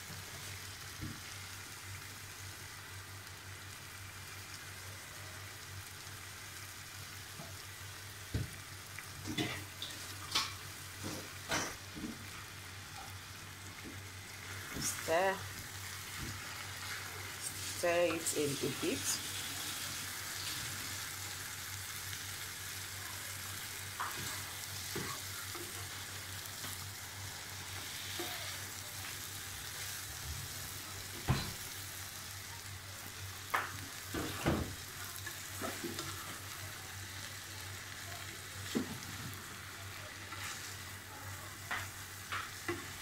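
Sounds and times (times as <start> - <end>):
food sizzling in frying pan: 0.0 - 43.0.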